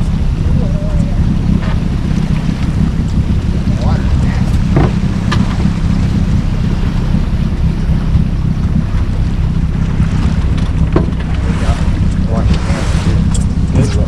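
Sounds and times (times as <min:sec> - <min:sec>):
boat motor running: 0:00.0 - 0:14.0
wind buffeting microphone: 0:00.0 - 0:14.0.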